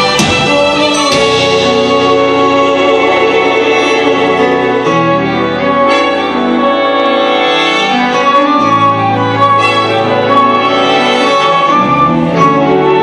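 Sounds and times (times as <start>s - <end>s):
orchestra playing slow ballad: 0.0s - 13.0s.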